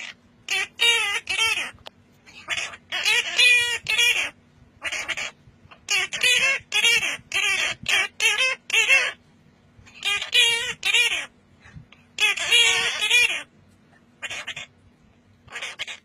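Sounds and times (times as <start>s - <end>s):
parrot calling: 0.0s - 9.2s, 9.9s - 11.4s, 12.1s - 13.5s, 14.2s - 14.8s, 15.4s - 16.0s.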